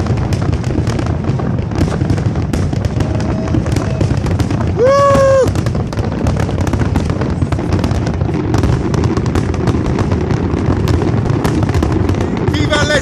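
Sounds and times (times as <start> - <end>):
fireworks crackling pops: 0.0 - 13.0.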